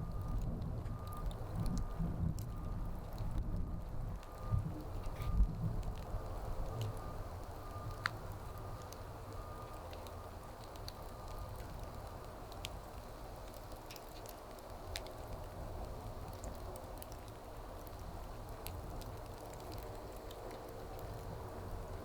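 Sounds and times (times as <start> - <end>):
fire crackles and pops: 0.0 - 22.0
wood fire hissing: 4.0 - 22.0.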